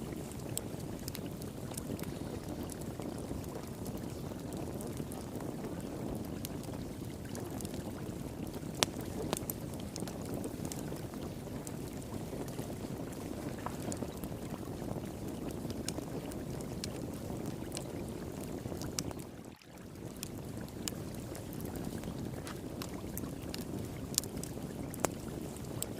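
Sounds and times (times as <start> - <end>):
flowing water: 0.0 - 25.9
wood fire crackling and popping: 0.0 - 25.9.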